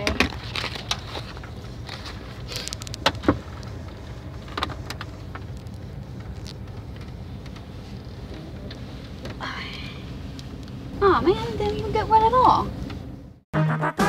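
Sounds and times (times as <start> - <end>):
low rumble inside van cab: 0.0 - 13.5.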